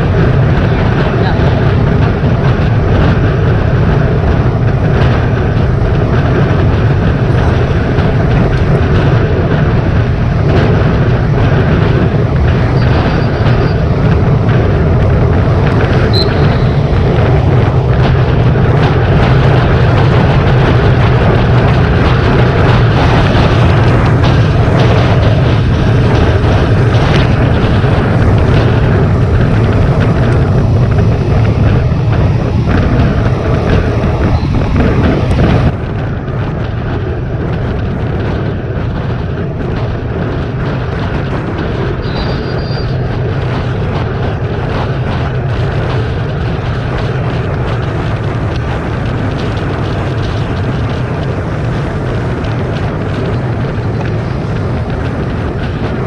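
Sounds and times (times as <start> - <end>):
tyre and road noise: 0.0 - 56.0
wind rush on microphone: 0.0 - 56.0.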